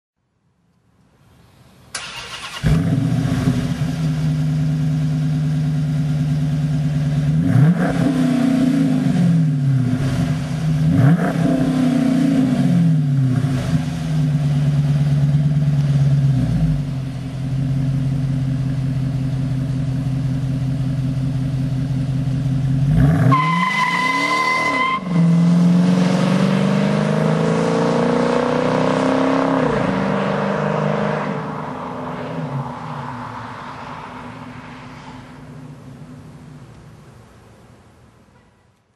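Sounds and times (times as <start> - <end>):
car engine idling and revving: 2.0 - 37.4.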